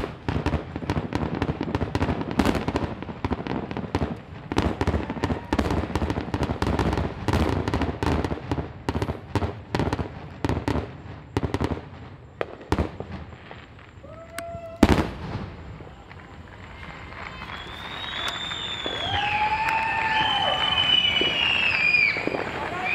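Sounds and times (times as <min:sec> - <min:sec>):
fireworks bursts and bangs: 0:00.0 - 0:22.9.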